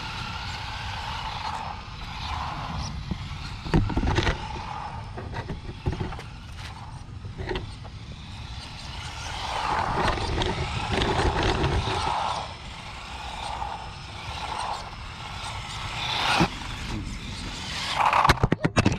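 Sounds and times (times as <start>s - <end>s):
toy truck motor and tyres whirring: 0.0s - 18.9s.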